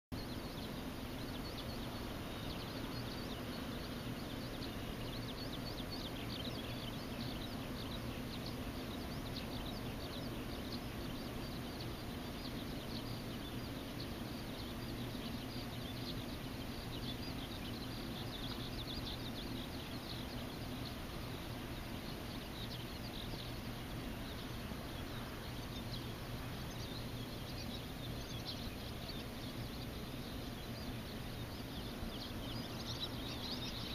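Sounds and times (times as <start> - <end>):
high rapid chirping animal calls: 0.2 - 33.9.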